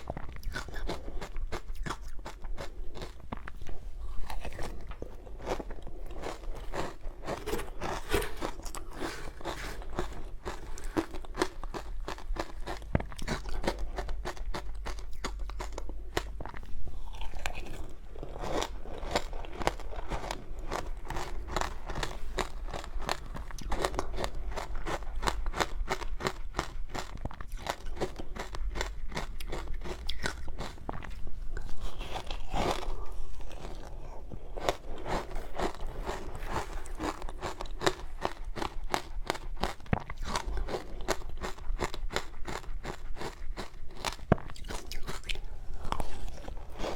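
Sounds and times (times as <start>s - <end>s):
chewing and crunching ice: 0.0s - 46.9s.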